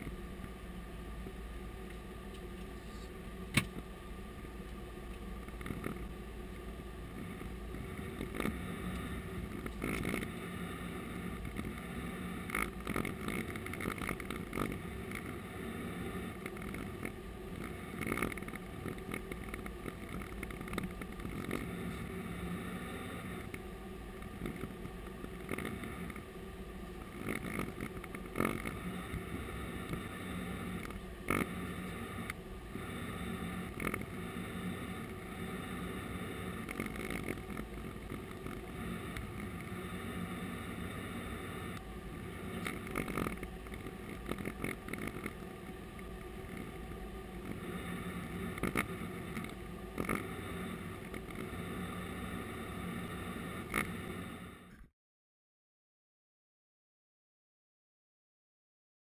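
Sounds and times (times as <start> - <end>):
cockpit hum: 0.0 - 54.9.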